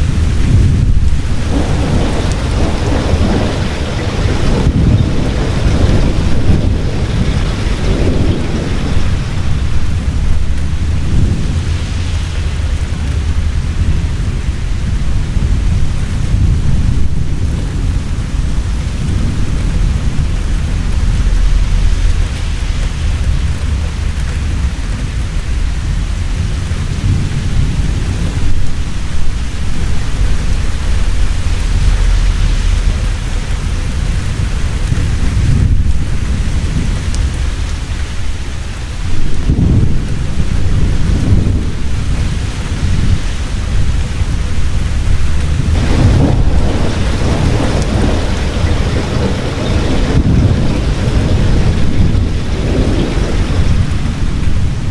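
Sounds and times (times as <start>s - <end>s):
heavy rain falling: 0.0s - 54.9s
thunder rumbling: 0.0s - 54.9s.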